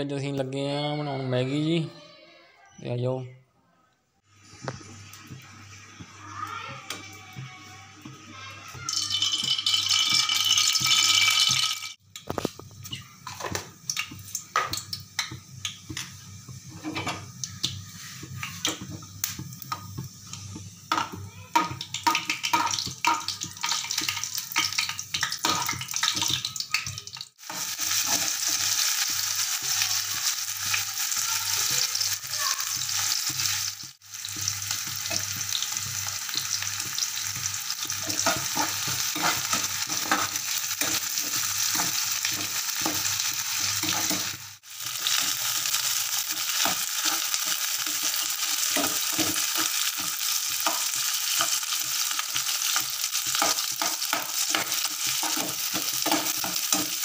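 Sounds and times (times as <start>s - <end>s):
vegetables sizzling in oil: 4.2s - 57.0s.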